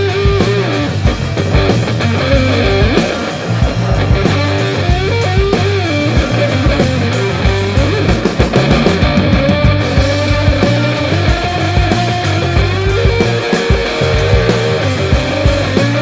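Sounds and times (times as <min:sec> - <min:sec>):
bass: 0:00.0 - 0:16.0
electric guitar: 0:00.0 - 0:16.0
steady drum beat: 0:00.0 - 0:16.0.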